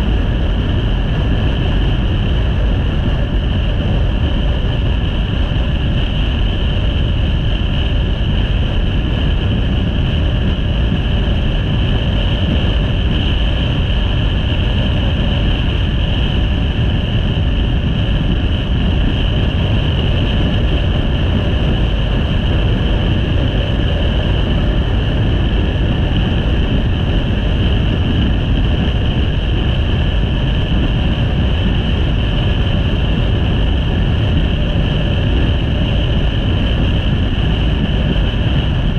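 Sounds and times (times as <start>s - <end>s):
motorcycle engine and road drone: 0.0s - 38.9s
steady high whine: 0.0s - 38.9s
wind rush on microphone: 0.0s - 38.9s.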